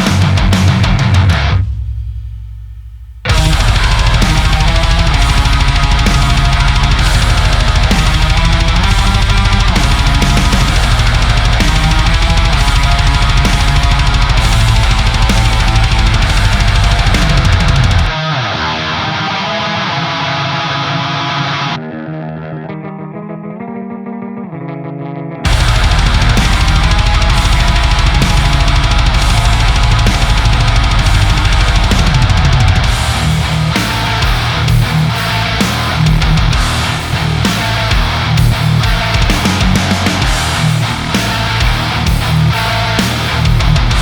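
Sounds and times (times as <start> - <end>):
distorted electric guitar riffing: 0.0 - 1.7, 3.2 - 44.0
programmed drum kit: 0.0 - 18.1, 25.4 - 44.0
bass: 0.0 - 18.2, 25.4 - 44.0.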